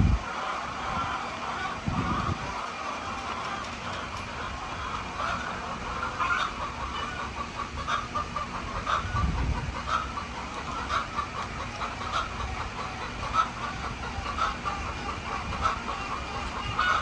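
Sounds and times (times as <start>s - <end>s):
chickens clucking: 0.2s - 17.0s.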